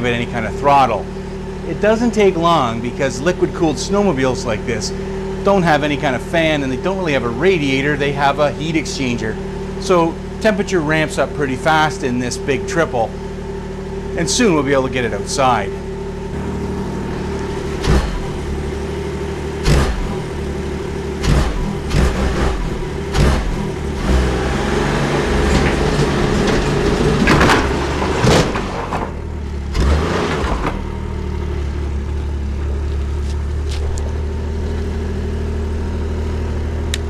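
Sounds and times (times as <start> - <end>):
engine throttle bursts: 0.0 - 37.0
snowmobile engine idling: 0.0 - 37.0.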